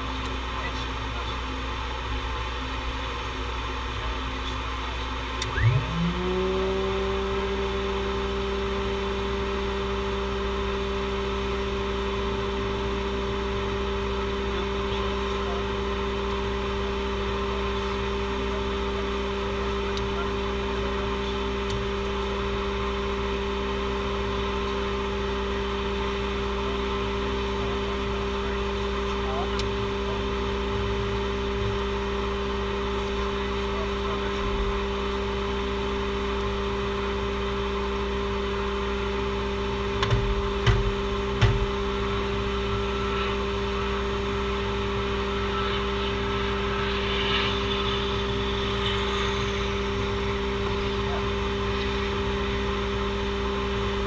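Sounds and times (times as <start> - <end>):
electrical unit whining: 0.0 - 54.0
ground equipment drone: 0.0 - 54.0.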